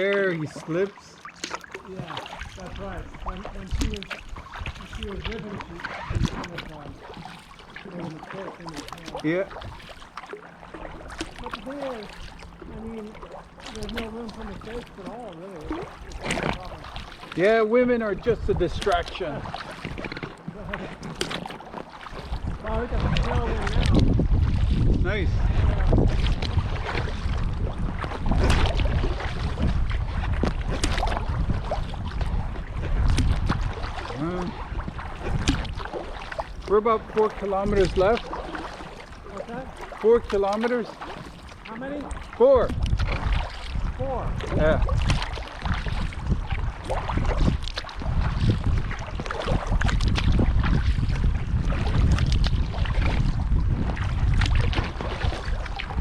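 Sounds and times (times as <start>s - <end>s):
paddle splashing in water: 0.0s - 56.0s
wind rumble on microphone: 1.9s - 7.4s, 10.6s - 56.0s.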